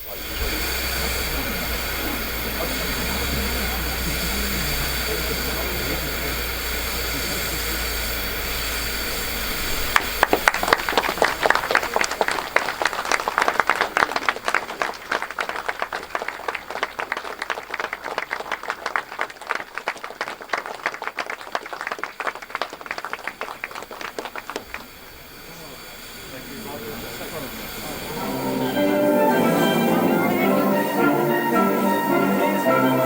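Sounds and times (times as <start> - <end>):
crowd applauding: 0.0 - 33.0
low hum and hiss: 0.0 - 33.0.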